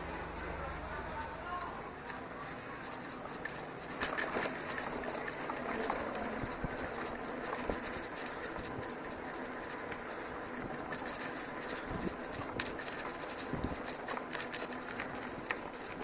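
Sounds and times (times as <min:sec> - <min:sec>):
bicycle tyre and wind noise: 0:00.0 - 0:16.0
bike rattling over bumps: 0:00.0 - 0:16.0.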